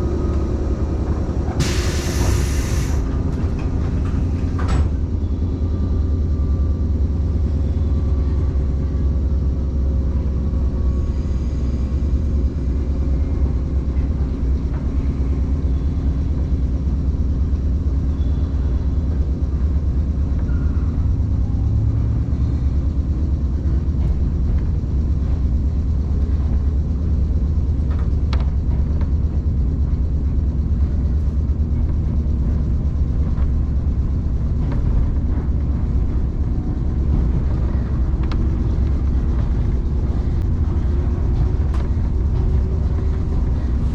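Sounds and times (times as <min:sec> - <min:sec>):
train wheels rumbling on track: 0:00.0 - 0:43.9.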